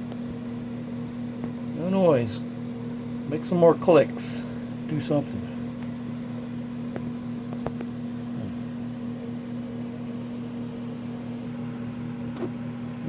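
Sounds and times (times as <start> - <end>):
fan motor humming: 0.0 - 13.0.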